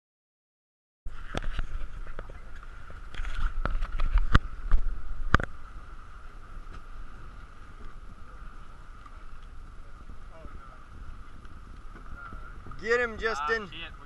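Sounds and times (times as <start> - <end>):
boat hum and rumble: 1.1 - 14.0.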